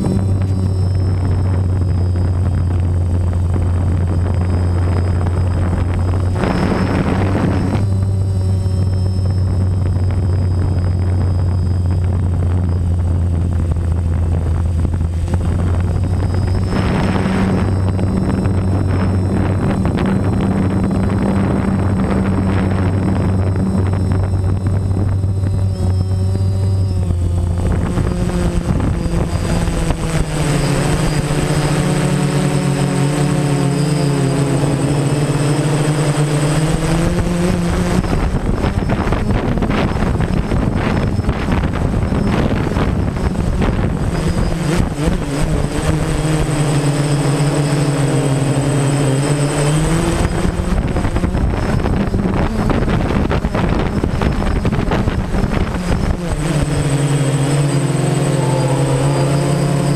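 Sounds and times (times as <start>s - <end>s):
drone propellers buzzing: 0.0s - 59.9s
thin high whine: 0.0s - 59.9s.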